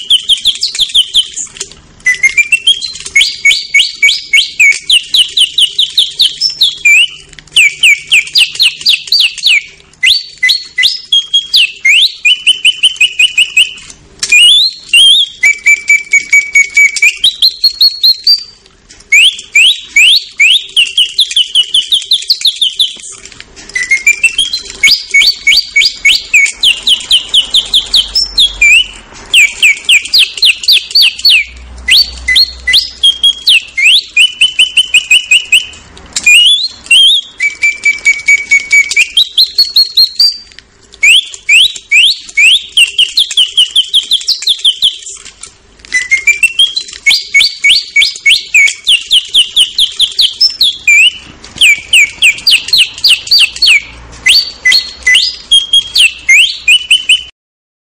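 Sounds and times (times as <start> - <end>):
mechanical bird whistle trills: 0.0 - 23.1, 23.7 - 57.3.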